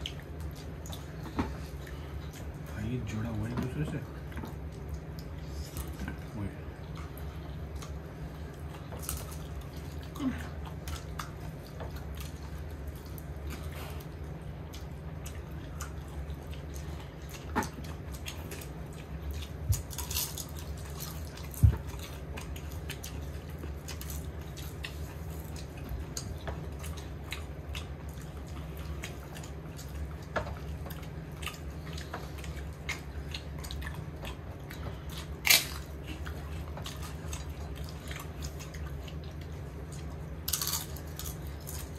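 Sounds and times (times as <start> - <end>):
people chewing: 0.0 - 41.9
steady low hum: 0.0 - 41.9.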